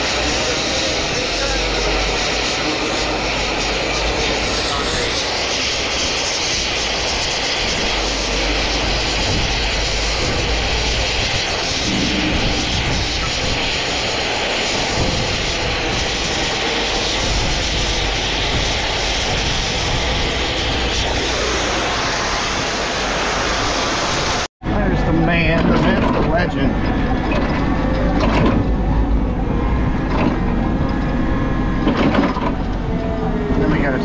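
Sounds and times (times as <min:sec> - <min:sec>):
loud mechanical drone: 0:00.0 - 0:34.0.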